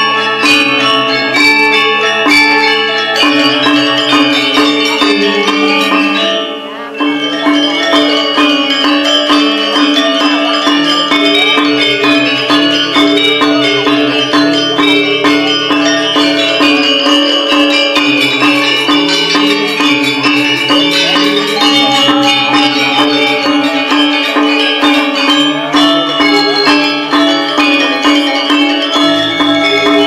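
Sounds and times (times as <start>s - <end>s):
gamelan ensemble playing: 0.0s - 30.0s.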